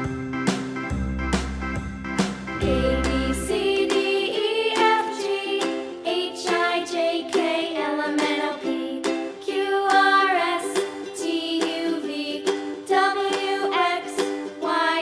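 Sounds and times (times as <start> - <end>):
cheerful plucked ukulele music: 0.0 - 15.0.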